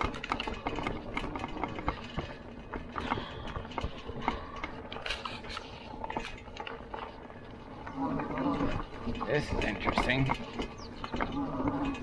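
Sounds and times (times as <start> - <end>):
bike rattling over rough dirt: 0.0 - 12.0.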